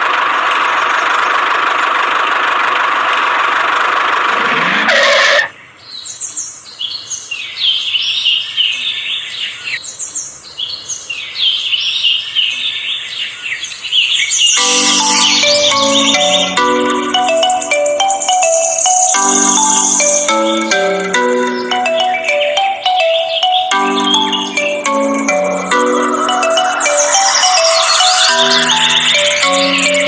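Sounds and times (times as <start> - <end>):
birds chirping: 4.2 - 30.0.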